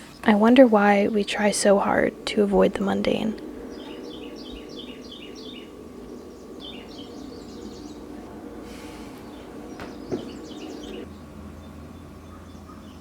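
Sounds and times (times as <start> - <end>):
songbirds chirping: 0.0 - 13.0
steady low hum: 0.0 - 13.0.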